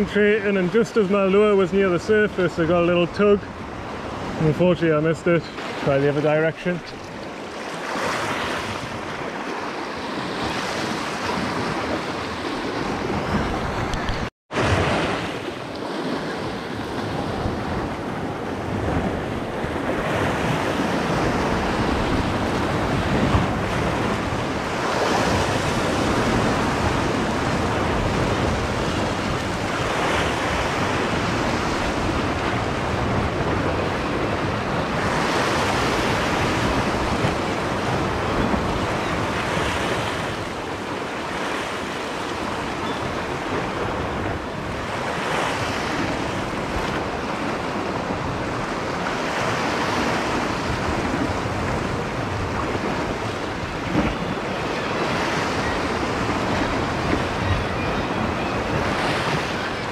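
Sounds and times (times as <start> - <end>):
wind noise on microphone: 8.0 - 40.9, 42.4 - 59.9.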